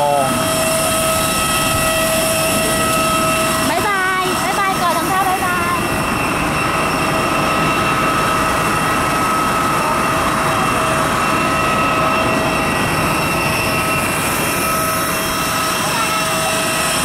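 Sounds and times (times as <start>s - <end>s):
jet engine whine and rush: 0.0s - 17.0s.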